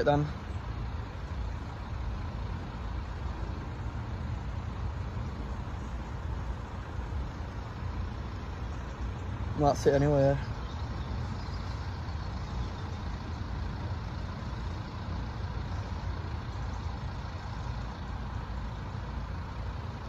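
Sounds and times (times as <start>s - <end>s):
road vehicles rumbling and idling: 0.0s - 20.0s.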